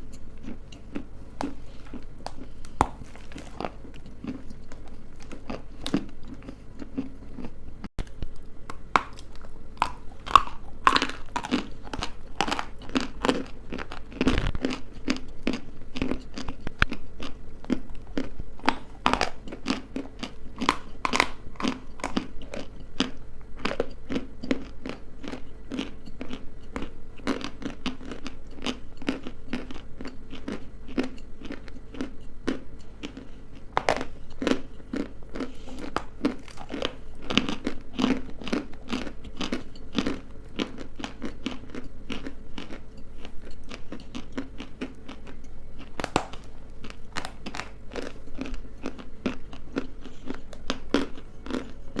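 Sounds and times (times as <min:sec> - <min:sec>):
person chewing crunchy clay: 0:00.0 - 0:52.0.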